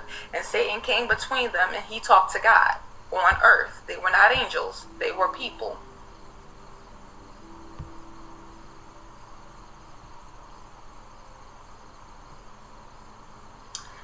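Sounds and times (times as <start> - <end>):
background hiss: 0.0 - 14.0
faint high steady tones: 0.0 - 14.0
faint hum: 0.0 - 14.0.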